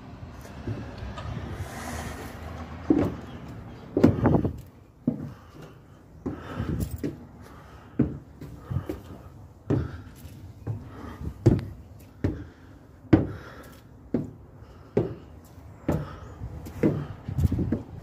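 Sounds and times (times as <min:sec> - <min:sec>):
footsteps on wooden stairs: 0:00.4 - 0:01.6, 0:02.2 - 0:18.0.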